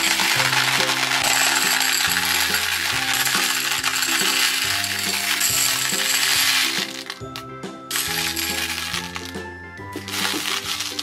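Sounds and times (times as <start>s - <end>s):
hard candies clattering into plastic tub: 0.0s - 11.0s.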